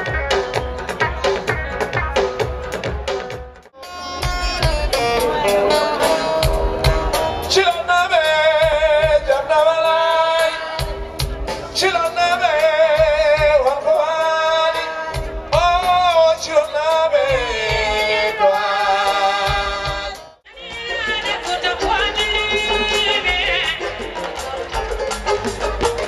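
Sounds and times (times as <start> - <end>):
drums with steady beat: 0.0 - 26.0
guitar: 0.0 - 26.0.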